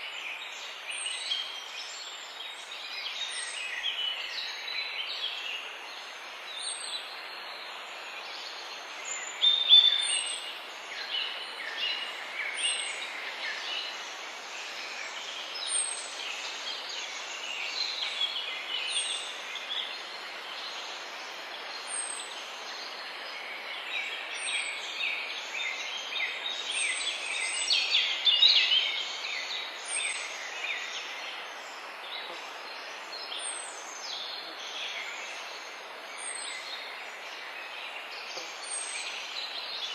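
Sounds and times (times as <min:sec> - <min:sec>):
songbirds chirping and trilling: 0:00.0 - 0:39.9
steady hiss: 0:00.1 - 0:39.9.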